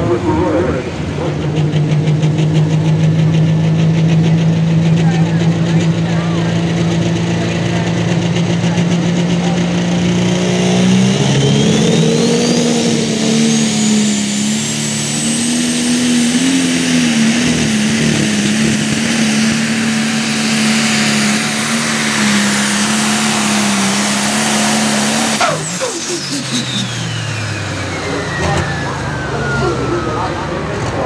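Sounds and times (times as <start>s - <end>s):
diesel engine at full throttle: 0.0s - 31.0s
turbocharger whine: 0.0s - 31.0s.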